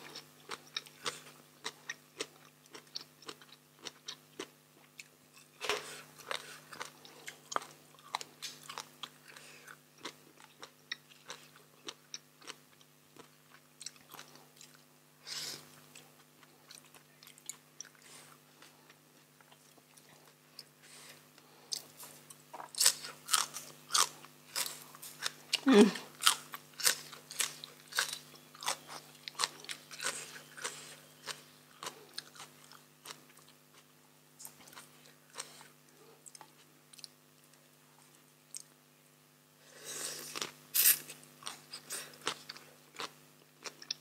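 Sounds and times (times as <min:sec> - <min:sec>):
chewing crunchy vegetables: 0:00.0 - 0:38.8, 0:40.1 - 0:44.0
faint steady hum: 0:00.0 - 0:44.0.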